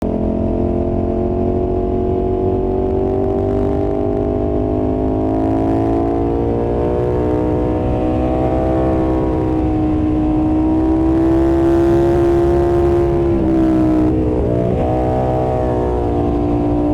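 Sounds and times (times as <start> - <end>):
wind and road rumble: 0.0 - 16.9.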